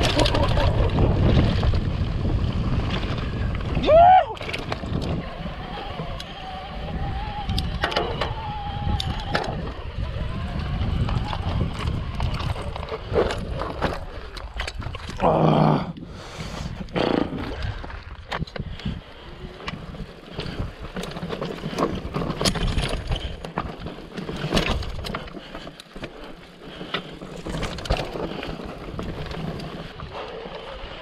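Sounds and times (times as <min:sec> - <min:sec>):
bike knocking and rattling: 0:00.0 - 0:15.3, 0:16.1 - 0:31.0
wind rumble on microphone: 0:00.0 - 0:25.4.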